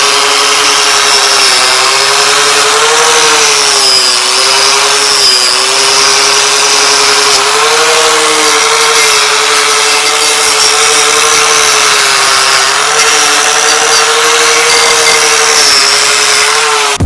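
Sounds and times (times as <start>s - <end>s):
power wire brush on metal: 0.0s - 17.0s.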